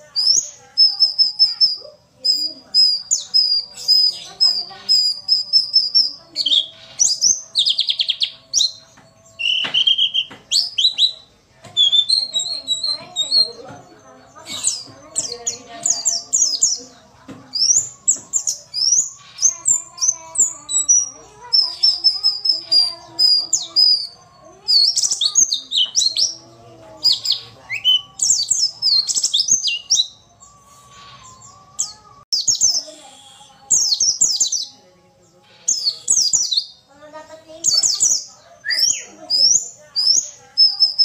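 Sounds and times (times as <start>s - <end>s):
bird chirping and trilling: 0.0s - 41.0s.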